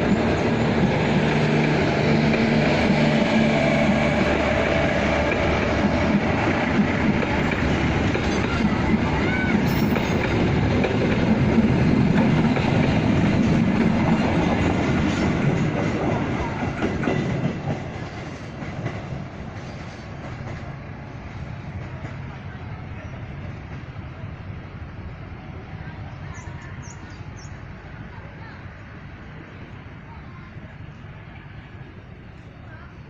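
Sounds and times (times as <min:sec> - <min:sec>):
passenger train passing: 0:00.0 - 0:33.0.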